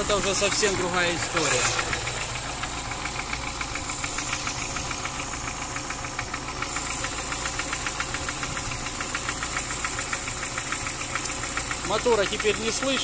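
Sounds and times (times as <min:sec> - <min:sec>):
light engine ticking: 0:00.0 - 0:13.0
petrol engine idling: 0:00.0 - 0:13.0.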